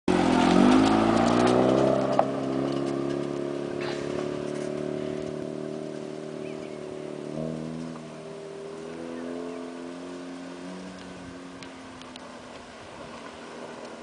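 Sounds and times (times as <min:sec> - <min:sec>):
rotary engine revving: 0:00.1 - 0:14.0
tyres on gravel: 0:00.1 - 0:14.0.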